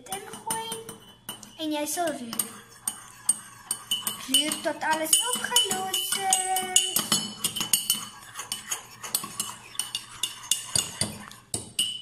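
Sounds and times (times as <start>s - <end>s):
teaspoon clinking in mug: 2.3s - 12.0s.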